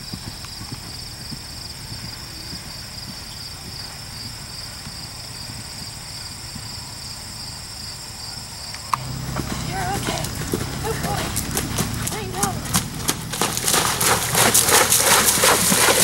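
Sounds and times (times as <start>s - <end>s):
horse hoofbeats cantering: 0.0s - 16.0s
insects chirring: 0.0s - 16.0s.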